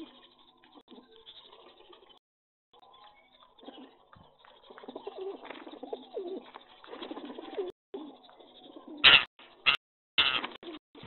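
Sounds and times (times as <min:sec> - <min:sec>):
pigeons cooing: 0:00.0 - 0:02.2, 0:03.6 - 0:11.0.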